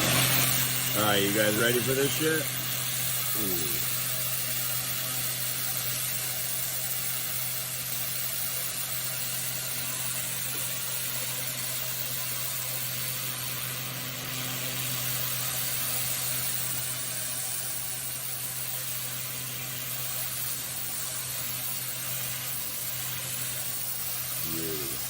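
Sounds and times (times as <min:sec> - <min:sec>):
high-pressure water spray hissing: 0:00.0 - 0:25.0
pressure washer motor humming: 0:00.0 - 0:25.0.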